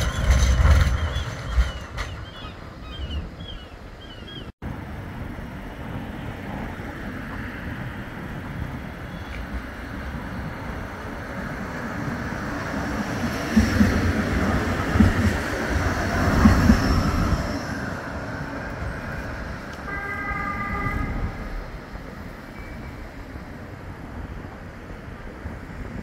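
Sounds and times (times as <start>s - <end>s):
tram rumbling past: 0.0s - 26.0s.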